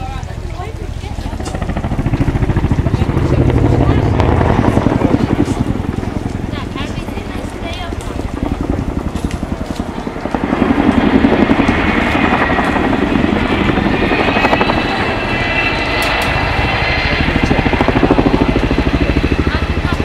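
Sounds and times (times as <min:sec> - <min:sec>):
helicopter high whine: 0:00.0 - 0:20.0
helicopter rotors beating: 0:00.0 - 0:20.0.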